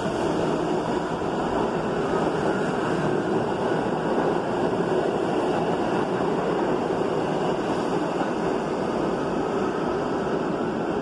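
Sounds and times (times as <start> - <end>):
subway train wheels on rails: 0.0 - 11.0.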